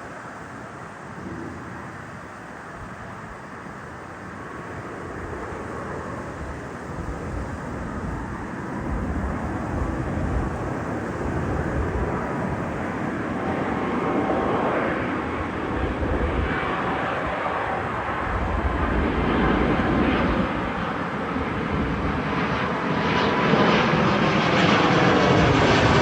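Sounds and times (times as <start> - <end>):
faint engine whine: 0.0 - 26.0
jet airliner passing over: 0.0 - 26.0.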